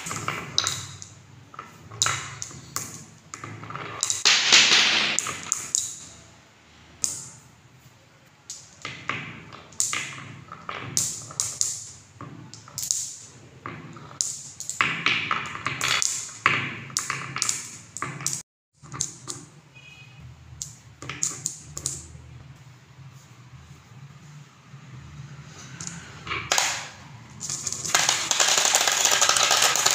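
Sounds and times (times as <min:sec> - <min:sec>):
balls clacking together: 0:00.0 - 0:06.4, 0:07.0 - 0:07.6, 0:08.2 - 0:19.6, 0:20.6 - 0:22.3, 0:25.6 - 0:29.9
balls rolling in grooves: 0:00.0 - 0:06.4, 0:07.0 - 0:19.6, 0:20.5 - 0:29.9.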